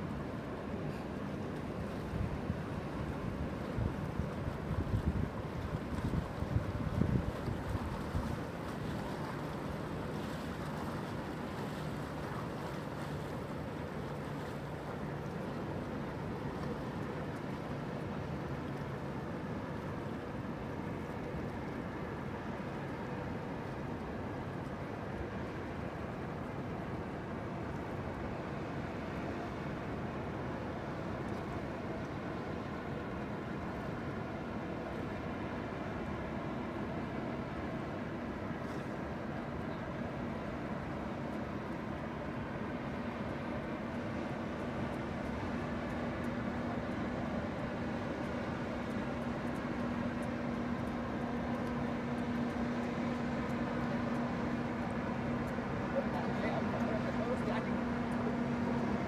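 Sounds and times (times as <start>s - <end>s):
ship engines droning: 0.0s - 59.0s.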